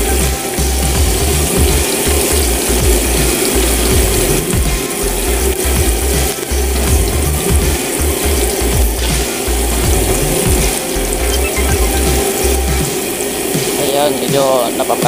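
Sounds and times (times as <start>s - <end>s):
noodles crackling in hot oil: 0.0s - 15.0s.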